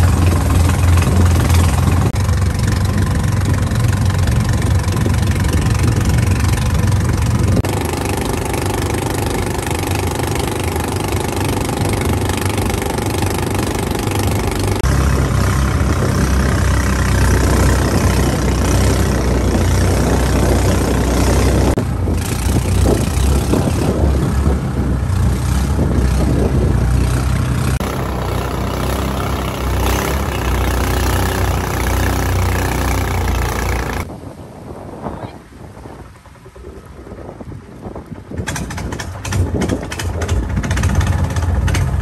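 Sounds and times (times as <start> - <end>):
boat engine running: 0.0 - 42.0
water churning along hull: 0.0 - 42.0.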